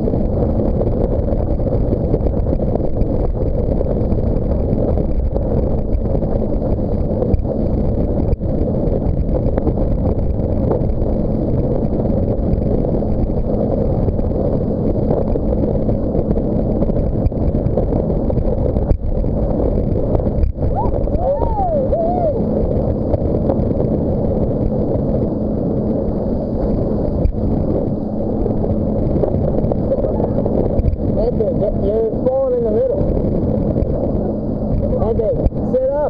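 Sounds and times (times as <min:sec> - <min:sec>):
faint boat engine drone: 0:00.0 - 0:36.0
wind buffeting microphone: 0:00.0 - 0:36.0.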